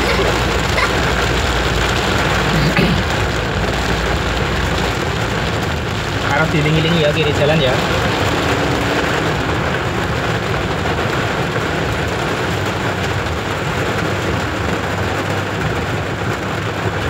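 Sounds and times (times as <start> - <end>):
heavy rain on a car: 0.0 - 17.0
tyres on a wet road: 0.0 - 17.0.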